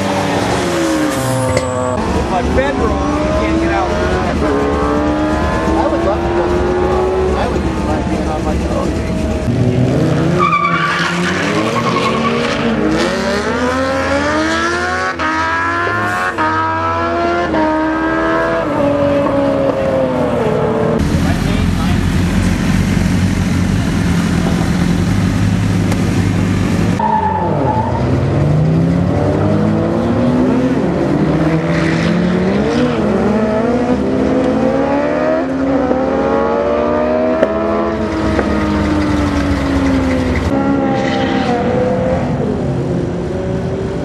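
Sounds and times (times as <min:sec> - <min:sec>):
motorcycle engines accelerating: 0:00.0 - 0:27.0, 0:27.9 - 0:44.0.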